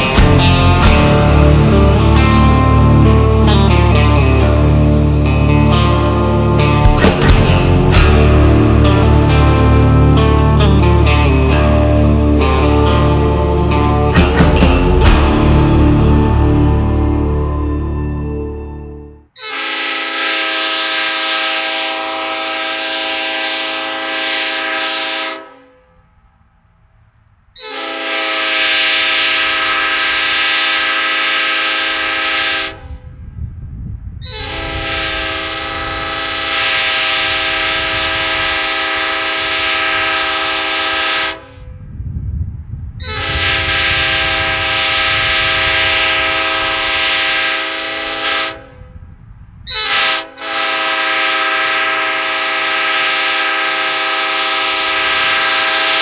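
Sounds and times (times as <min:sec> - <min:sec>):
train air horn chord: 0:00.0 - 0:26.3, 0:27.6 - 0:33.2, 0:34.3 - 0:41.7, 0:43.0 - 0:49.0, 0:49.7 - 0:56.0.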